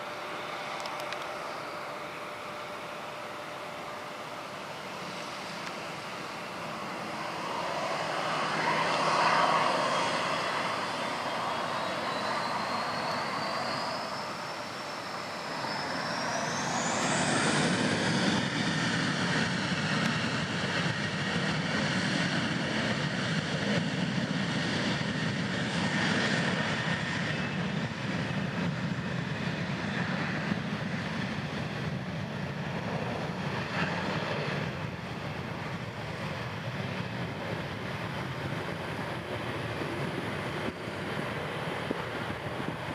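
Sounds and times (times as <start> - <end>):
jet engines spooling up: 0.0 - 42.9.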